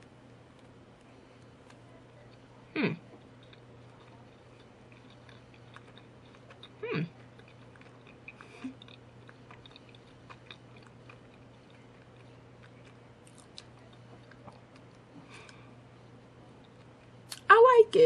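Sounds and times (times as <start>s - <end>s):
faint chewing: 0.4s - 17.5s.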